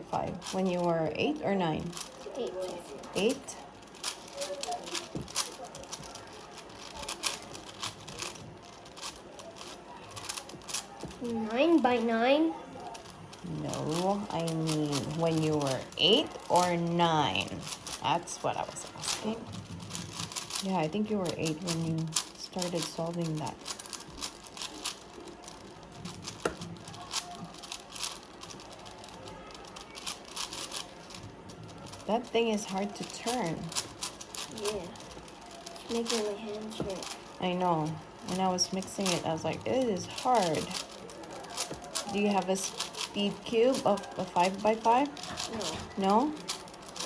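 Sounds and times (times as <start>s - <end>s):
puzzle cube clicking and scraping: 0.0s - 47.0s.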